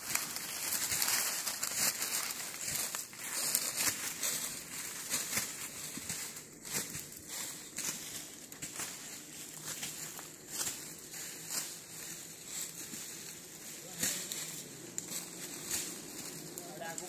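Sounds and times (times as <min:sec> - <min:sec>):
branches beating burning leaves: 0:00.0 - 0:17.0
dry leaves crackling in fire: 0:00.0 - 0:17.0.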